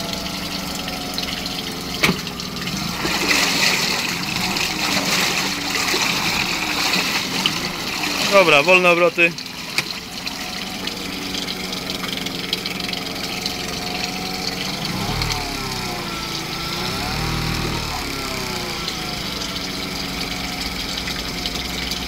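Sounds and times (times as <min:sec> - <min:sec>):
outboard motor idling: 0:00.0 - 0:22.0.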